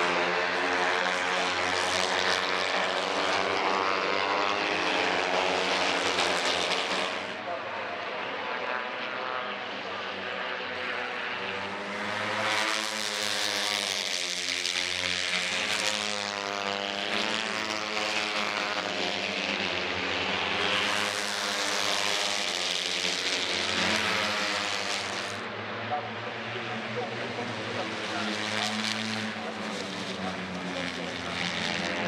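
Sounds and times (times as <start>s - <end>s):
racing motorcycles passing: 0.0s - 32.0s.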